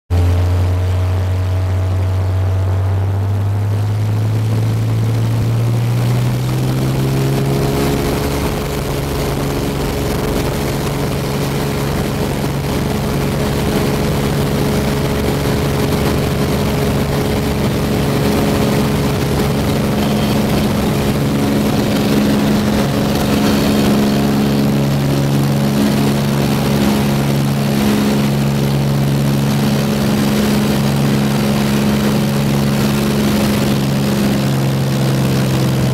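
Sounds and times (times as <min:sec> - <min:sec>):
propeller aircraft engine droning: 0:00.1 - 0:35.9.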